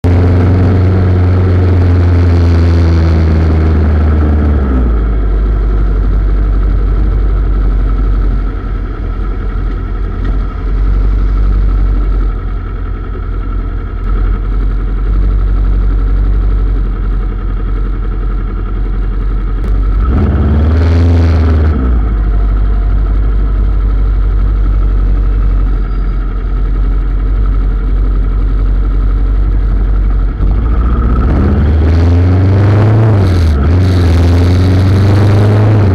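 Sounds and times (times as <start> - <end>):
motorcycle engine rumbling: 0.0 - 35.9
road and wind noise: 0.0 - 35.9.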